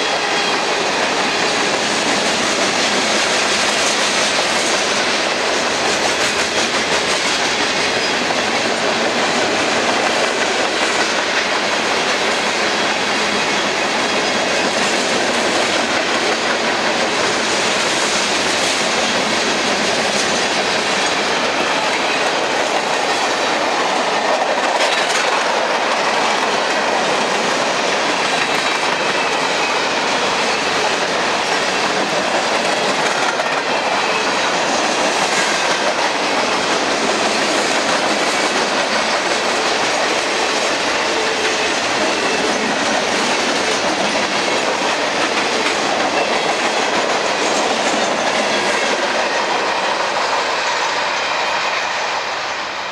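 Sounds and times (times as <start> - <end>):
wheels clickety-clack over rail joints: 0.0 - 51.8
freight train wheels rumbling on rails: 0.0 - 52.9.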